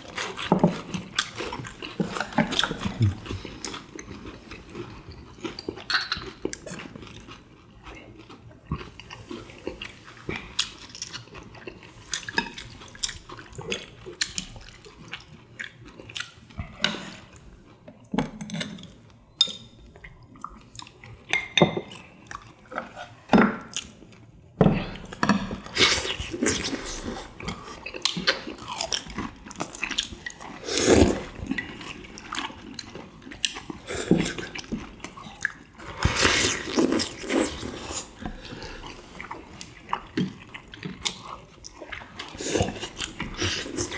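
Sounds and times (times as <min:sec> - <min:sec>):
people chewing and slurping: 0:00.0 - 0:43.9.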